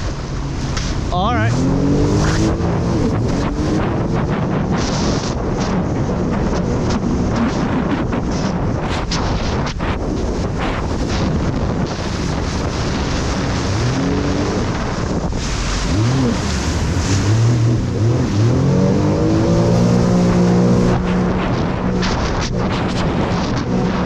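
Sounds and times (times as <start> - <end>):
jet ski engine revving: 0.0 - 24.0
rushing water: 0.0 - 24.0
wind noise on microphone: 0.0 - 24.0.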